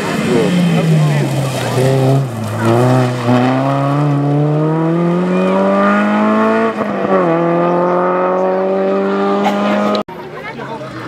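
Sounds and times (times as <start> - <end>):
rally car engine accelerating: 0.0 - 10.1.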